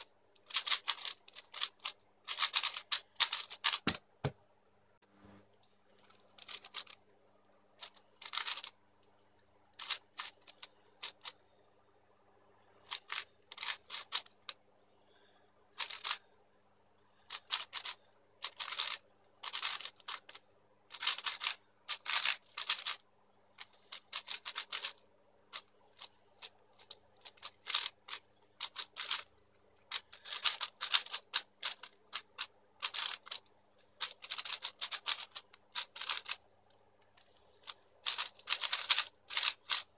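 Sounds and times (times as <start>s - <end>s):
plastic puzzle cube clacking: 0.0s - 4.1s, 6.0s - 7.0s, 7.8s - 8.8s, 9.8s - 11.4s, 12.8s - 14.6s, 15.8s - 16.2s, 17.3s - 23.0s, 23.6s - 39.9s.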